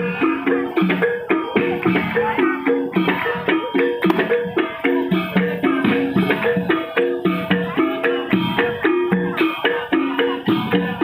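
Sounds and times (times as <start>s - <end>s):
drumming: 0.0s - 11.0s
gamelan metal notes: 0.0s - 11.0s.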